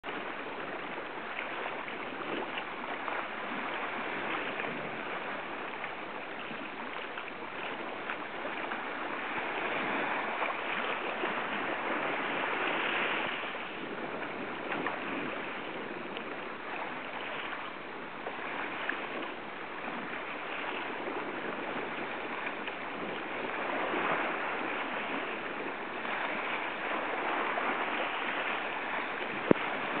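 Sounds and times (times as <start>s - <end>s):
sea waves lapping on rock: 0.0s - 30.0s.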